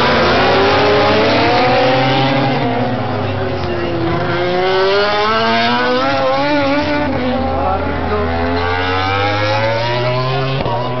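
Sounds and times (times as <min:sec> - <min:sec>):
racing motorcycle engine accelerating: 0:00.0 - 0:11.0.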